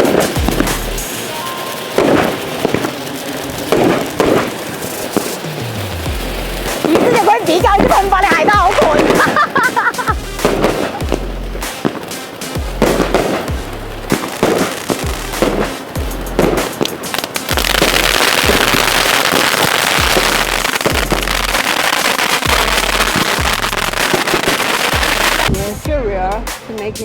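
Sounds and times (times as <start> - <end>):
music with steady beat: 0.0 - 1.2, 5.4 - 27.0
fireworks bangs: 0.0 - 25.9
fireworks crackling: 0.0 - 27.0.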